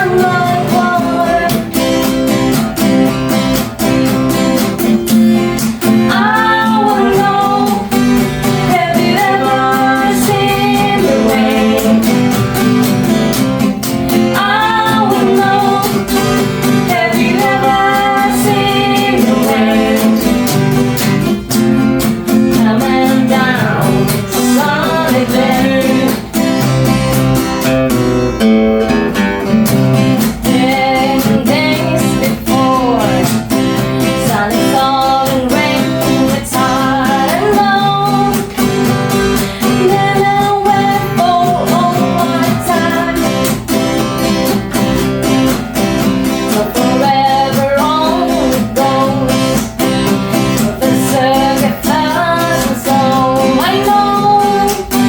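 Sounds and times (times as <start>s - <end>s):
person singing: 0.0s - 27.2s, 30.0s - 55.0s
strummed acoustic guitar: 0.0s - 55.0s.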